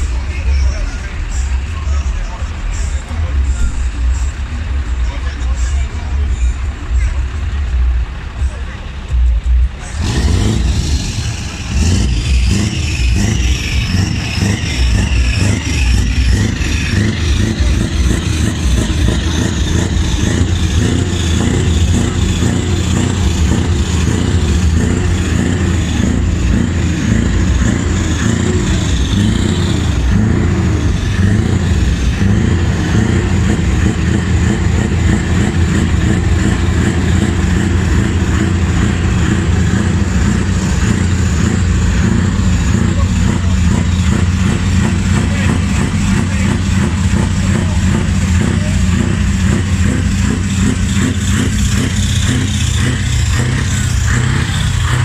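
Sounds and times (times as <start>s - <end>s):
heavy vehicle engine running: 0.0s - 55.0s.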